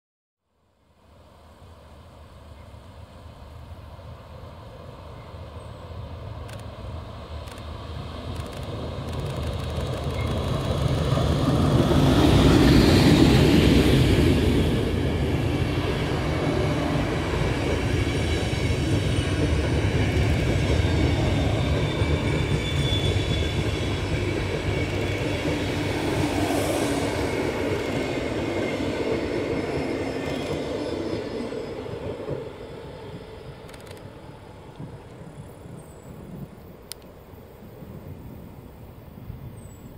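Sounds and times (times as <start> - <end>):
electric train passing: 1.1 - 39.9
train coaches rolling rumble: 4.0 - 39.4.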